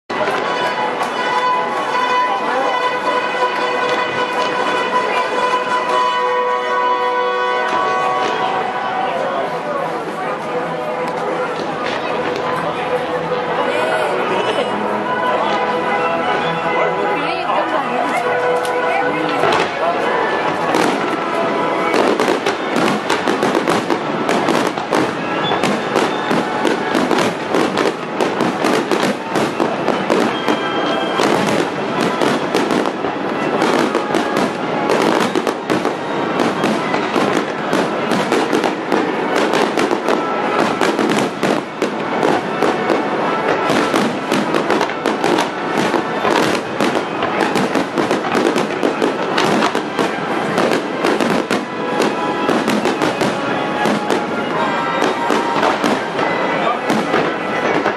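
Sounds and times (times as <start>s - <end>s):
fireworks bursting: 0.1s - 17.2s, 17.8s - 57.9s.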